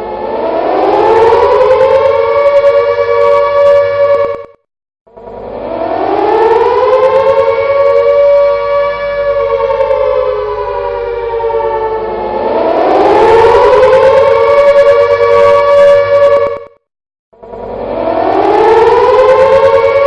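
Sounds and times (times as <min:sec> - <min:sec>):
air raid siren wailing: 0:00.0 - 0:20.0.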